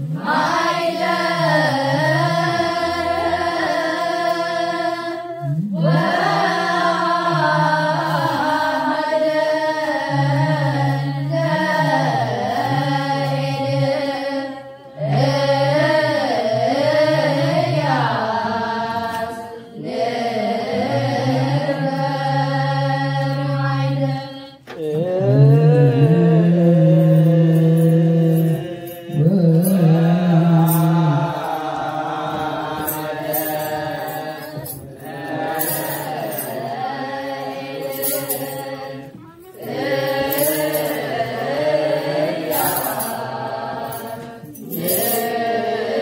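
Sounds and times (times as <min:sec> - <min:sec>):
group chanting in unison: 0:00.0 - 0:46.0.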